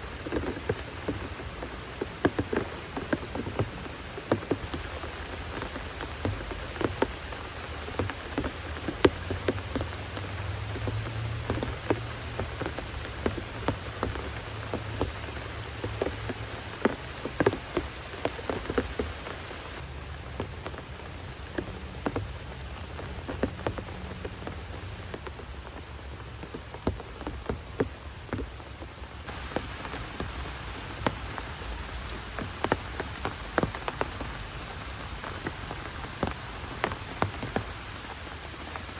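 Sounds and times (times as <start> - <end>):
rain falling: 0.0 - 38.9
raindrops pattering: 0.0 - 38.9.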